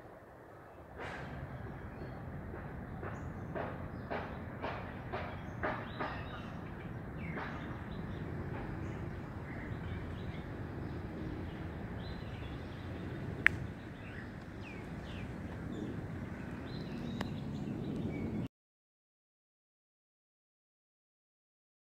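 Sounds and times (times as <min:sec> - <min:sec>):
low background rumble: 0:00.0 - 0:18.5
birds chirping: 0:00.6 - 0:18.5.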